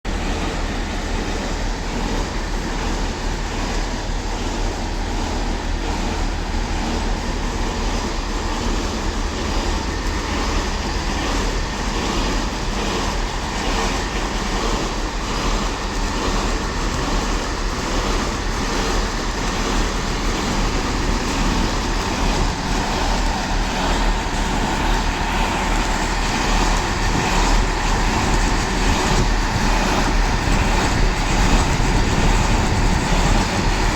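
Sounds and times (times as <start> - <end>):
diesel train running: 0.0 - 33.9.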